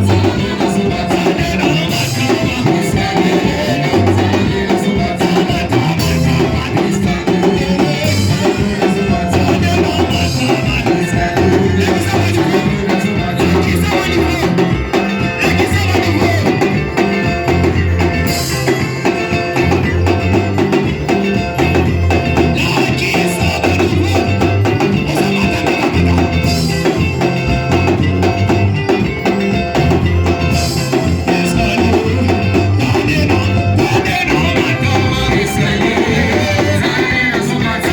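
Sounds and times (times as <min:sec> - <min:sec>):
people singing: 0:00.0 - 0:27.9, 0:30.6 - 0:37.9
live band playing: 0:00.0 - 0:37.9.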